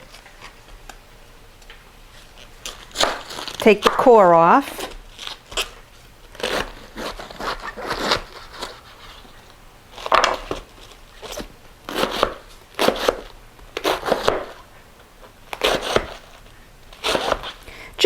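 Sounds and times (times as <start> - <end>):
knife cutting cabbage: 2.2 - 17.7.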